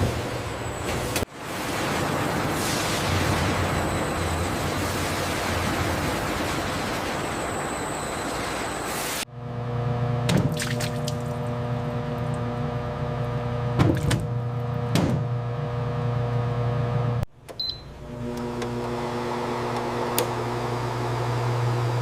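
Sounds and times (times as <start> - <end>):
machinery electric hum: 0.0 - 22.0.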